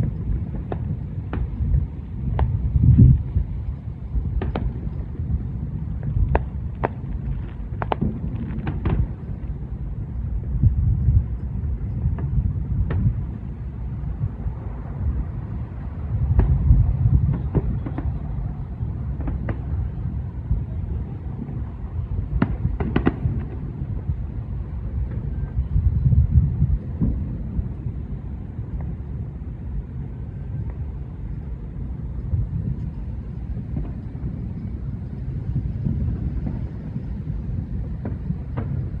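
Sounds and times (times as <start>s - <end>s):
distant fireworks rumble: 0.0s - 39.0s
fireworks bangs: 0.0s - 39.0s.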